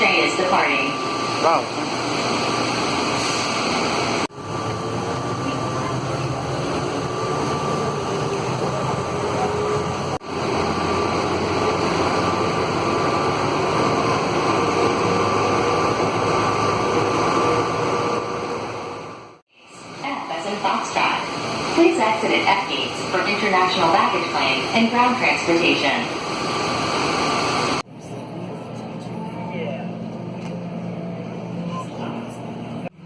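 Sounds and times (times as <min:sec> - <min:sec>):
train rumbling with faint whine: 0:00.0 - 0:33.0.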